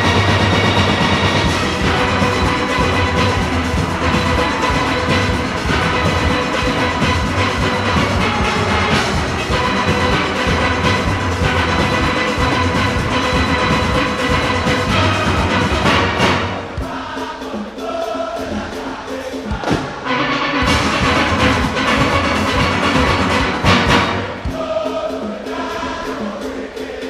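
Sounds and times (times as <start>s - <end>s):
steel orchestra playing: 0.0s - 19.1s, 20.0s - 26.6s
driving percussion beat: 0.0s - 27.0s.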